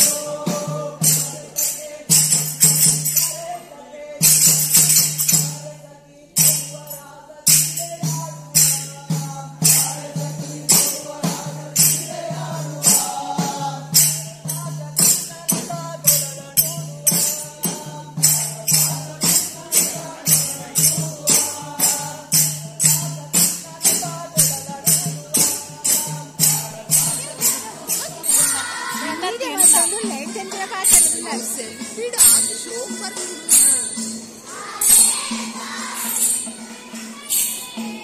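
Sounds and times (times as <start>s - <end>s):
group singing devotional song: 0.0s - 38.0s
hand cymbals clashing: 0.0s - 38.0s.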